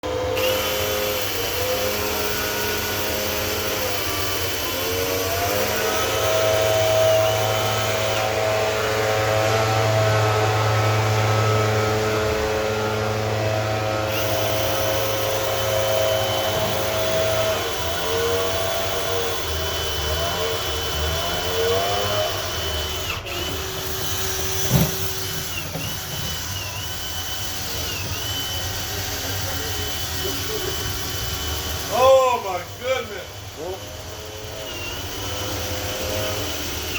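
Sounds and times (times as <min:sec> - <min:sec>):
vacuum motor whine: 0:00.0 - 0:36.9.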